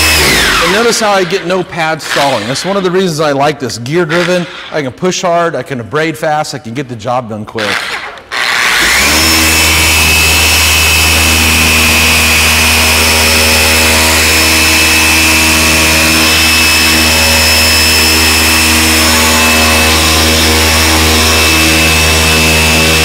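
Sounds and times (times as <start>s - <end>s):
polisher whining: 0.0s - 3.4s, 7.6s - 23.0s.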